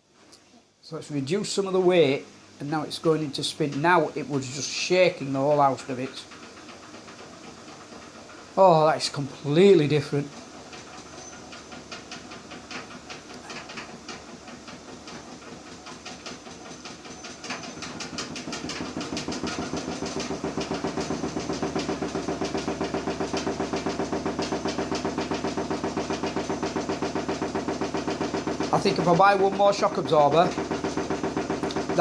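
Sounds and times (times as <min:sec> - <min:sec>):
washing machine spin cycle: 0:00.0 - 0:32.0.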